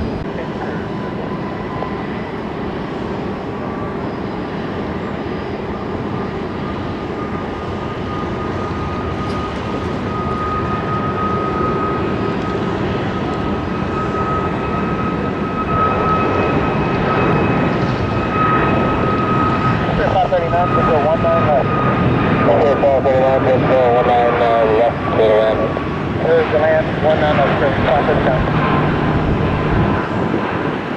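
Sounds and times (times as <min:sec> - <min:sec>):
jet engines whining: 0:00.0 - 0:30.9.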